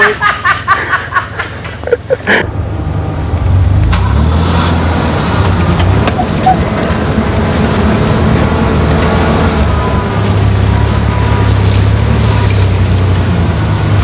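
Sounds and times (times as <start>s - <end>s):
car engine droning: 1.1s - 14.0s.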